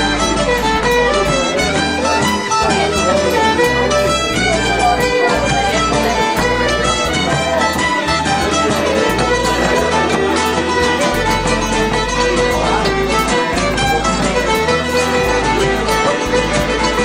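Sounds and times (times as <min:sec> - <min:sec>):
fiddle tune: 0:00.0 - 0:17.0
frame drum beating: 0:00.0 - 0:17.0.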